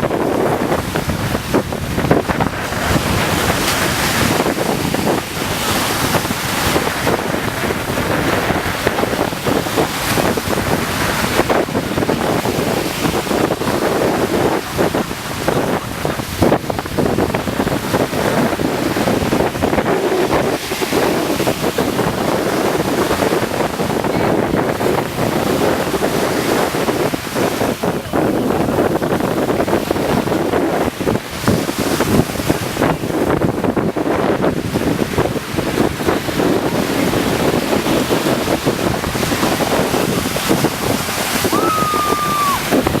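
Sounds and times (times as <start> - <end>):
sea surf: 0.0 - 43.0
wind on microphone: 0.0 - 43.0.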